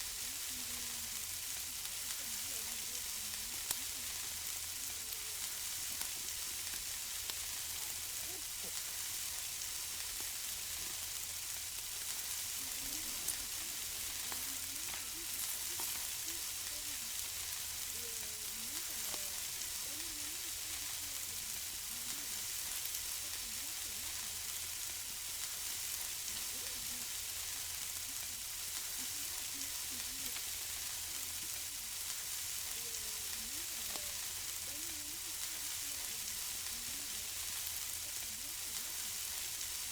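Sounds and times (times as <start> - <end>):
food sizzling on a grill: 0.0 - 39.9
small pops and crackles: 1.2 - 39.9.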